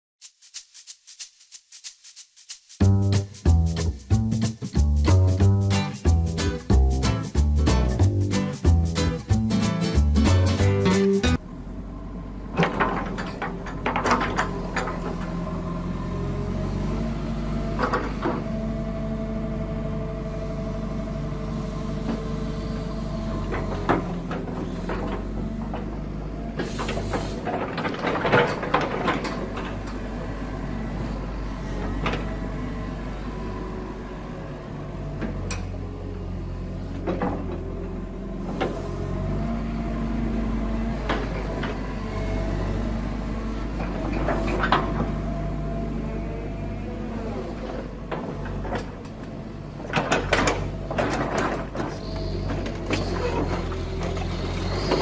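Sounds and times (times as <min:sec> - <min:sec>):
excavator running: 0:02.8 - 0:55.0.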